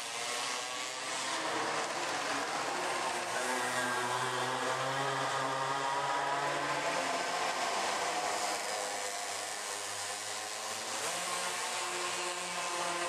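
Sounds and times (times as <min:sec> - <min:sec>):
small two-stroke engines buzzing: 0:00.0 - 0:13.0.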